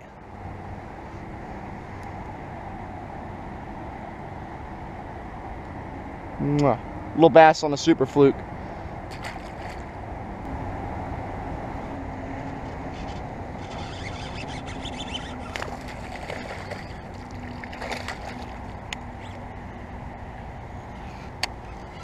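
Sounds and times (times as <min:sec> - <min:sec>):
faint hum: 0:00.0 - 0:22.0
low outdoor rumble: 0:00.0 - 0:22.0.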